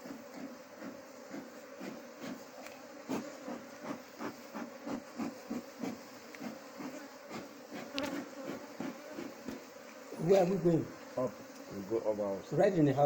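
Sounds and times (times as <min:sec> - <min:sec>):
bee smoker bellows puffing: 0:00.0 - 0:12.8
honeybees buzzing: 0:00.0 - 0:13.0.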